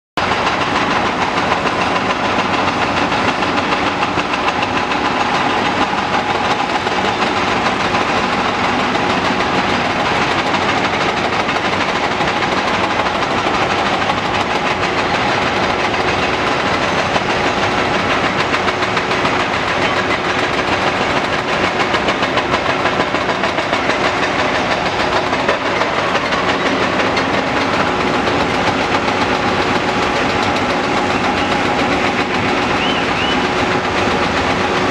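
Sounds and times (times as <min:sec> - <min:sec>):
excavator engine and hydraulics: 0:00.2 - 0:34.9.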